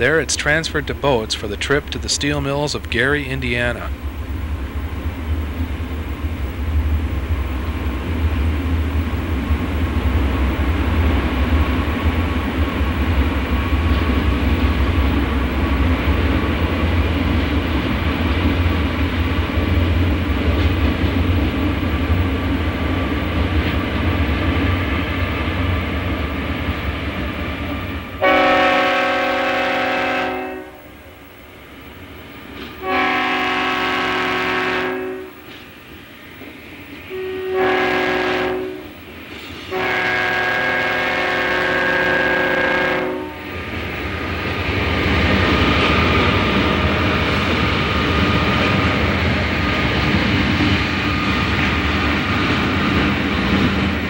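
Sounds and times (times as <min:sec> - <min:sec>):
diesel locomotive engines rumbling: 0:00.0 - 0:54.0.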